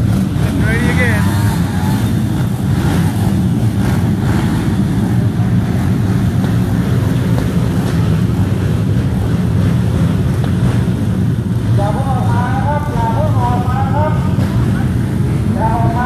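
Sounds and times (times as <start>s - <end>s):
motocross bike engines droning: 0.0s - 16.0s.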